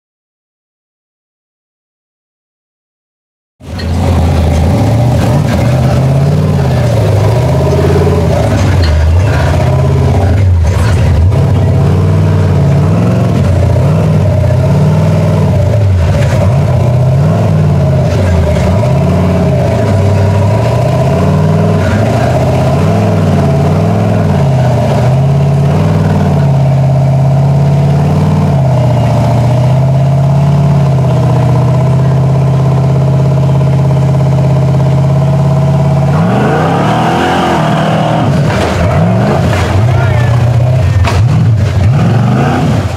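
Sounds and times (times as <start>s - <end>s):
engine revving: 3.6s - 42.9s.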